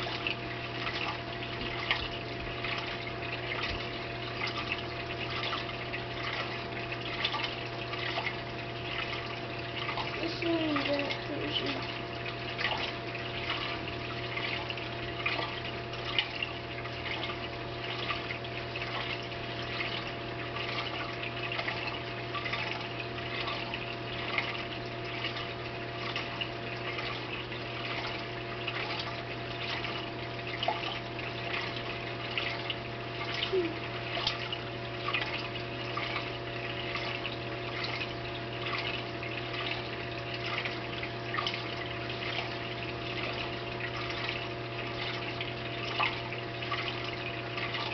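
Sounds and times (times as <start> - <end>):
drip-like ticks: 0.0 - 10.2, 11.8 - 47.9
aquarium water trickling: 0.0 - 47.9
pump hum: 0.0 - 47.9.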